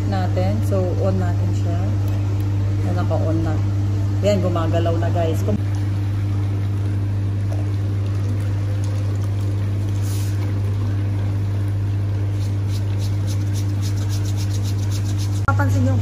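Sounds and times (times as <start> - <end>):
massage chair motors humming: 0.0 - 16.0.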